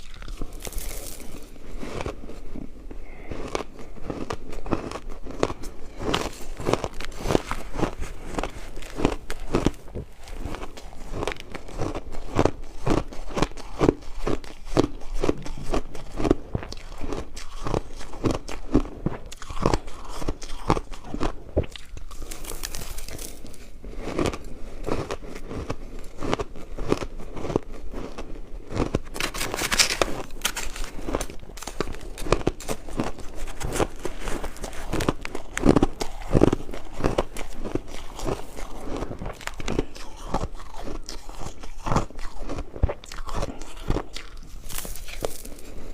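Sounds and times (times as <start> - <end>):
ice crunching while chewed: 0.0 - 45.9.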